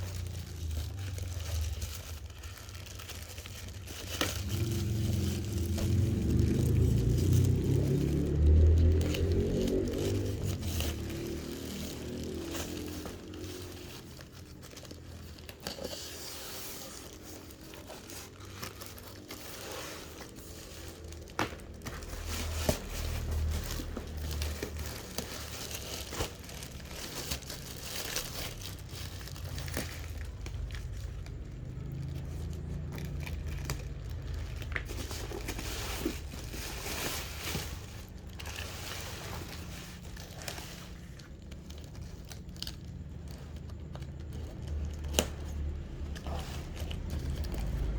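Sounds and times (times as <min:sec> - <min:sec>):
plastic packaging crinkling: 0:00.0 - 0:47.9
plastic tearing: 0:00.0 - 0:47.9.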